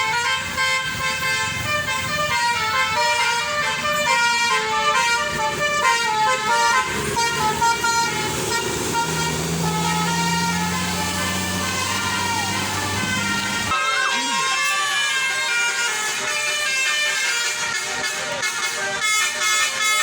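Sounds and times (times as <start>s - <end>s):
bus engine hum: 0.0s - 16.9s
bus horn playing melody: 0.0s - 20.0s.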